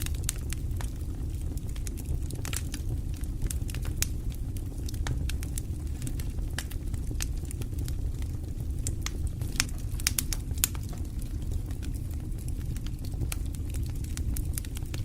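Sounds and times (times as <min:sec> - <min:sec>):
burning logs crackling and popping: 0:00.0 - 0:15.0
flames rumbling: 0:00.0 - 0:15.0.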